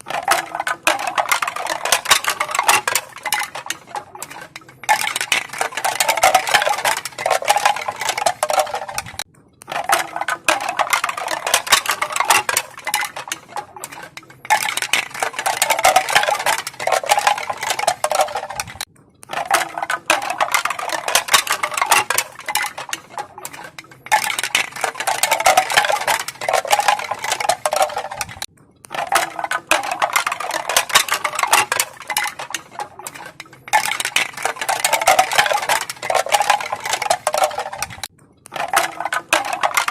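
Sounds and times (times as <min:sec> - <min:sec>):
bamboo pieces clacking together: 0:00.0 - 0:39.9.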